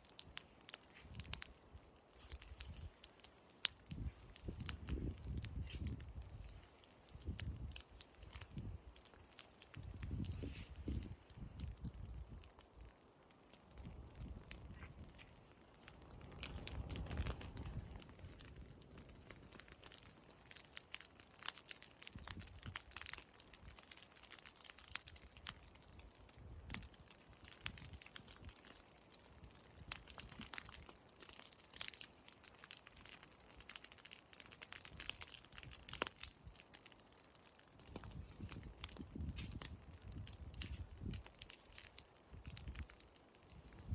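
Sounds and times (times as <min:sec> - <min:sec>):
burning straw crackling and popping: 0:00.0 - 0:43.9.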